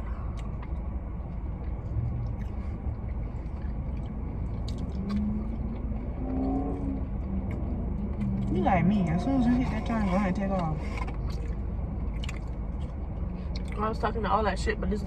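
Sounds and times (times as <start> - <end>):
clicks of chewing and handling food: 0.0 - 8.6, 9.9 - 13.8
car cabin engine rumble: 0.0 - 15.0
faint hum: 0.0 - 15.0.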